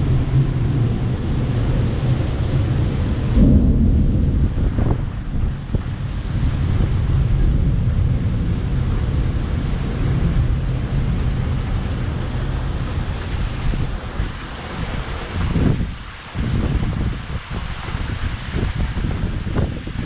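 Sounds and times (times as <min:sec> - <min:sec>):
heavy low rumble: 0:00.0 - 0:17.6
wind gusts buffeting microphone: 0:00.0 - 0:20.0.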